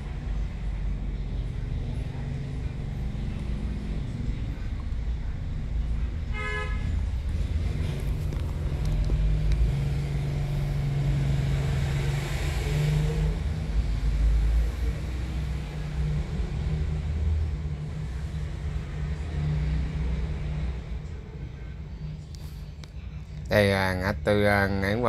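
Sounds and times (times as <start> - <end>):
passing motorbikes and cars: 0.0 - 23.7.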